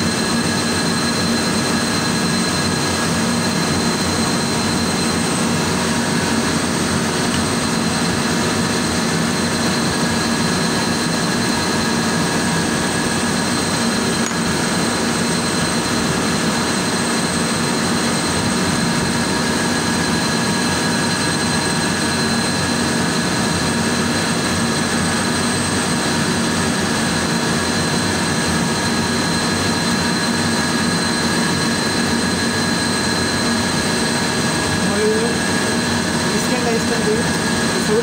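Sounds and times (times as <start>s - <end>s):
high whine: 0.0s - 38.0s.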